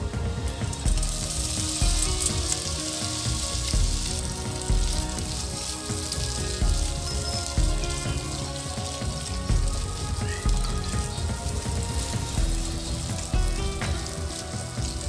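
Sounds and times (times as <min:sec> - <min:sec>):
oil sizzling in a frying pan: 0:00.0 - 0:15.0.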